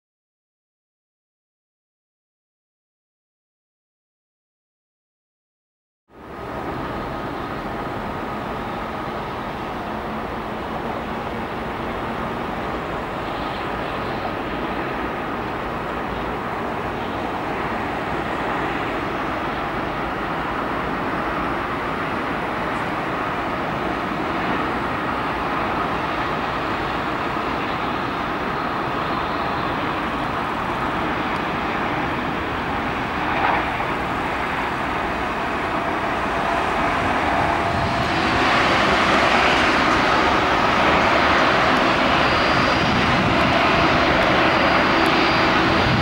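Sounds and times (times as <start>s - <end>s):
turboprop engines droning: 6.1s - 46.0s.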